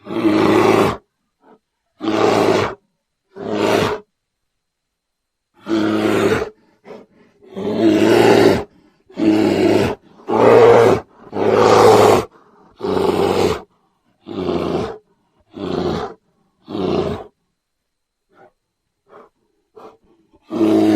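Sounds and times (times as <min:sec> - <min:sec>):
bear roaring: 0:00.0 - 0:04.1, 0:05.6 - 0:17.4, 0:18.3 - 0:20.9.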